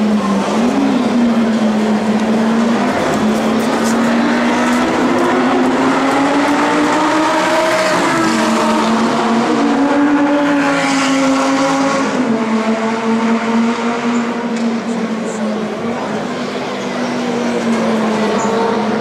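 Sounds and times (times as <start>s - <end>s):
sports car engines racing: 0.0s - 19.0s.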